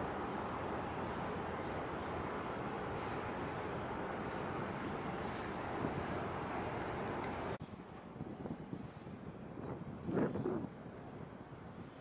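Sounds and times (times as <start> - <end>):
outdoor ambient rushing hiss: 0.0 - 12.0.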